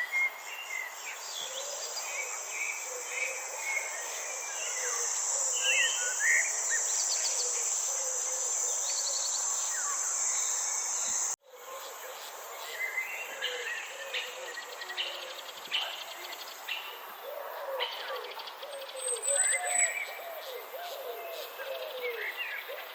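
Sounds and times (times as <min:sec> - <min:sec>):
insects droning: 0:00.0 - 0:22.9.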